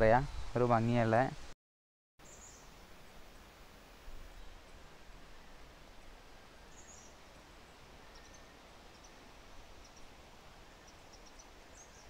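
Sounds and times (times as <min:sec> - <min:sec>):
steady low hiss: 0:00.0 - 0:01.5, 0:02.2 - 0:12.0.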